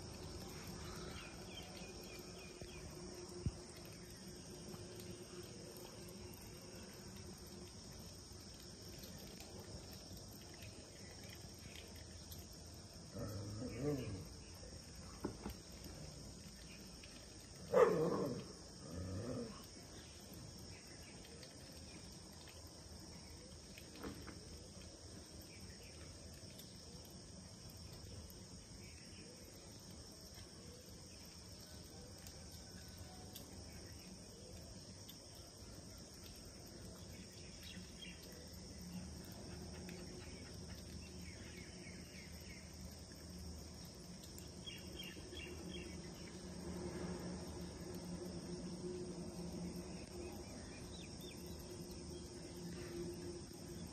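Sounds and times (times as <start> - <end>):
high chirring of insects: 0.0 - 53.9.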